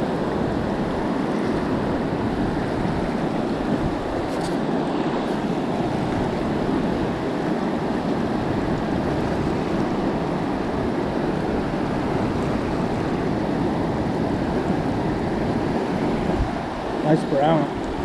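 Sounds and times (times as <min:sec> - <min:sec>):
river water rushing over rocks: 0:00.1 - 0:18.0.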